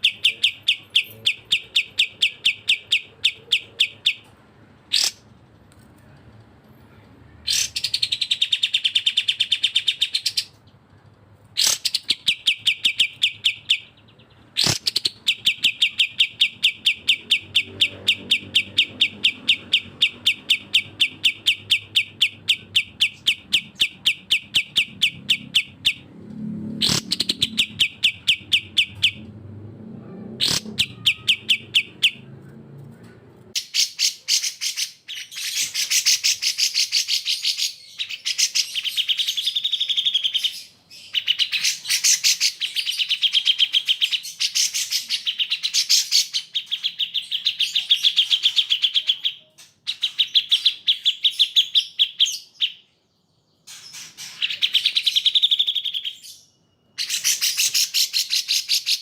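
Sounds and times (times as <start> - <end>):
songbirds singing: 0.0 - 6.2, 6.8 - 59.0.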